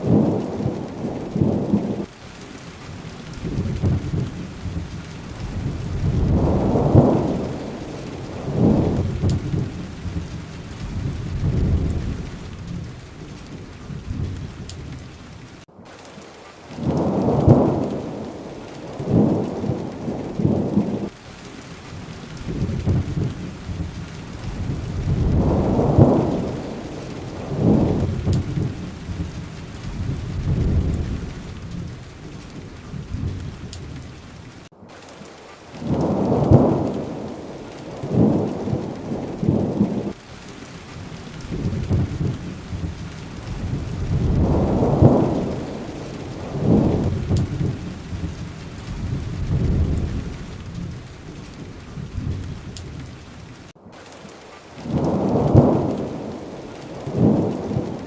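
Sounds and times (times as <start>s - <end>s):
rolling thunder: 0.0s - 2.3s, 2.9s - 15.6s, 16.8s - 21.2s, 21.9s - 34.7s, 35.8s - 40.2s, 41.0s - 53.8s, 54.8s - 58.0s
steady rain: 0.0s - 58.0s.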